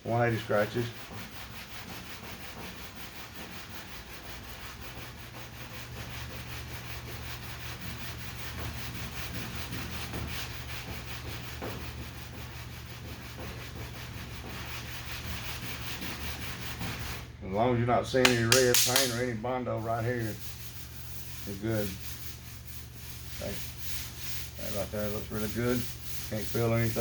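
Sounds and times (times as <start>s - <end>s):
sandpaper sanding: 0.0s - 17.3s, 18.2s - 27.0s.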